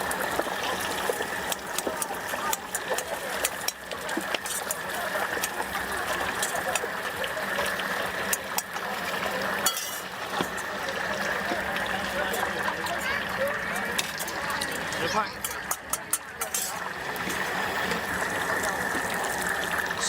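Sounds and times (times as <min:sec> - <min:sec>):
deep-frying sizzle with crackles: 0:00.0 - 0:20.0.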